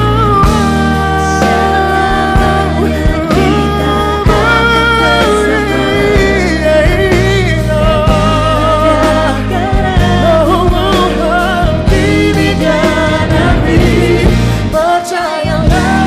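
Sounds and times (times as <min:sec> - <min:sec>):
live pop band playing: 0:00.0 - 0:16.0
steady bass line: 0:00.0 - 0:16.0.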